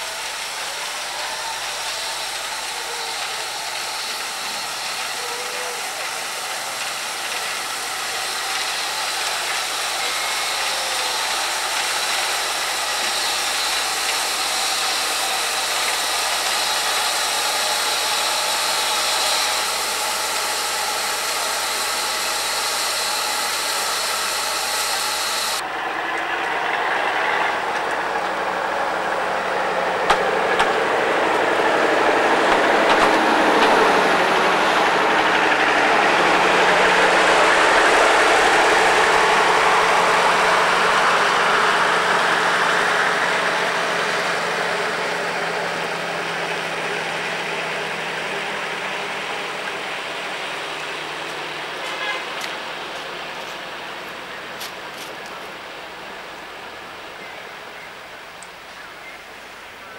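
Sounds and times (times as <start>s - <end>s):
steam locomotive hissing: 0.0s - 58.7s
diesel railcar running past: 0.0s - 59.9s.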